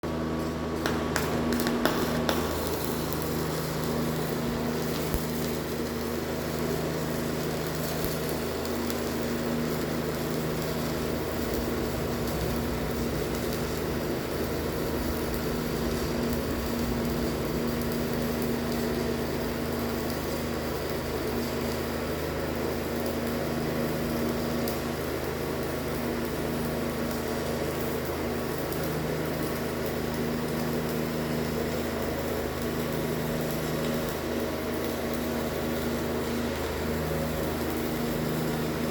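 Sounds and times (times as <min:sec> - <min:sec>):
low electrical hum: 0:00.0 - 0:38.9
arc welding hiss: 0:00.1 - 0:38.9
sharp welding crackles: 0:00.1 - 0:38.9.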